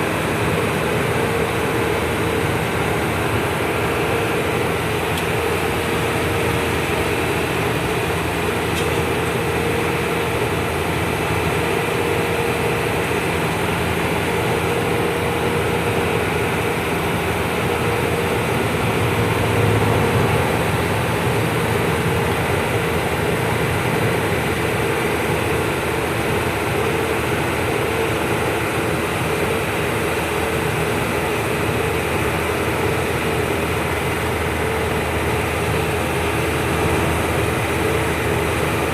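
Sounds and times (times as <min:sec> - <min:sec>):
truck engine and road noise drone: 0:00.0 - 0:38.9.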